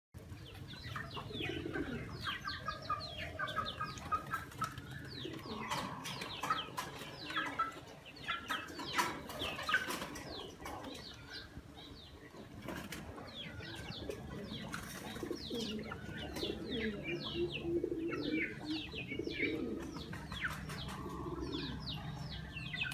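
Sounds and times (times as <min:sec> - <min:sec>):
birds chirping: 0:00.2 - 0:22.9.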